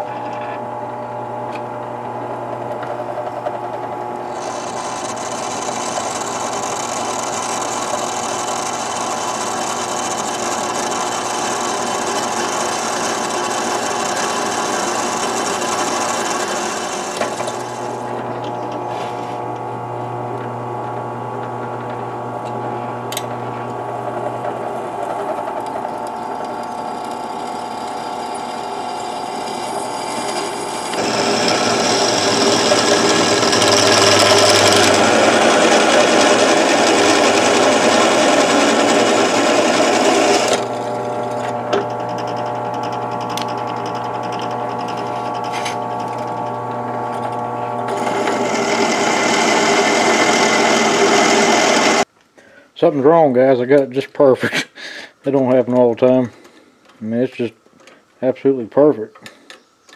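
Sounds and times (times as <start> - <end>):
power drill boring metal: 2.0 - 52.1.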